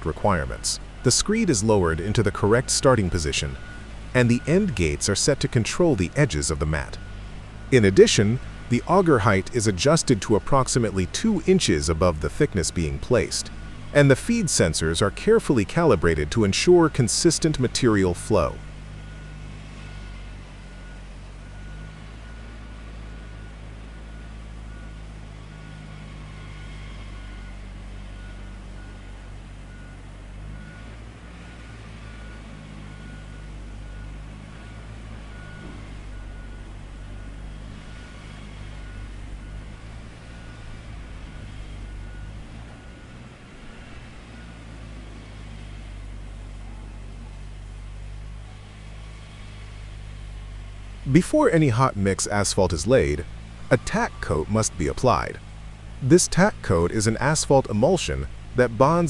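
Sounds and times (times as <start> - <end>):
reversing alarm beeping: 0.0 - 45.8, 51.1 - 55.5
diesel engine running: 0.0 - 59.0.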